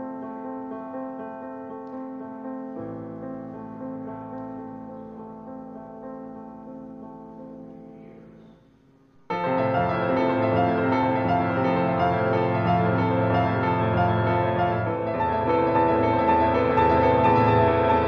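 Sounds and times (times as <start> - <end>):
soft piano passage: 0.0 - 18.0
sustained piano chords: 0.0 - 18.0.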